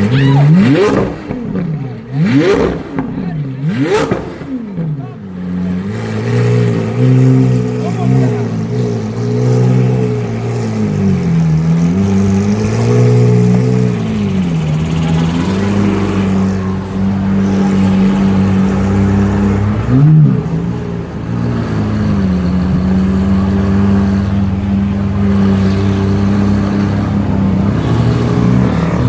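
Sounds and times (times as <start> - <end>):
supercar engine running: 0.0 - 29.0.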